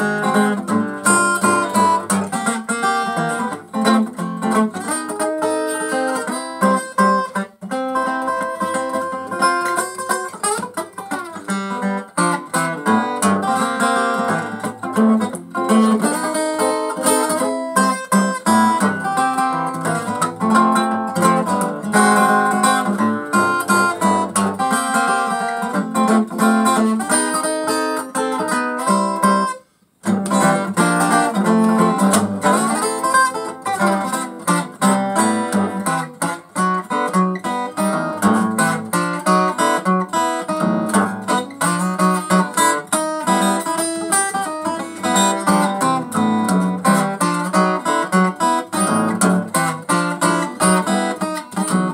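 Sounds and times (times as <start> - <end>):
acoustic guitar playing blues: 0.0 - 51.9.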